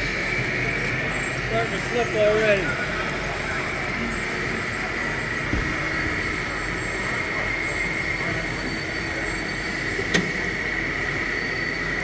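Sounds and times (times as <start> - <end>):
high-pitched whine: 0.0 - 12.0
machinery running: 0.0 - 12.0.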